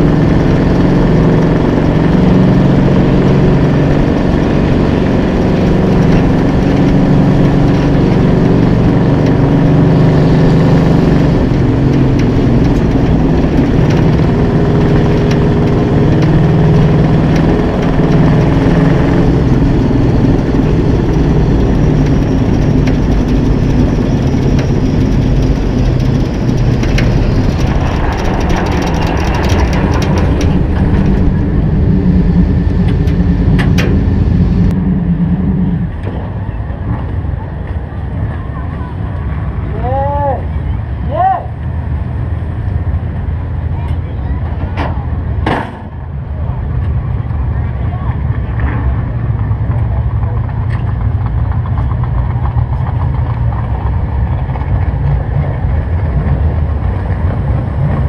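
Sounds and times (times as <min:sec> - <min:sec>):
racing car engine under load: 0:00.0 - 0:39.8, 0:41.6 - 0:58.0.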